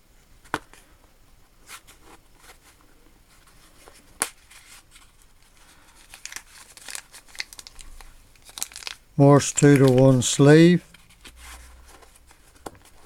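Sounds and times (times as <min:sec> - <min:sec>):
packaging rustling and crinkling: 0:01.8 - 0:13.0.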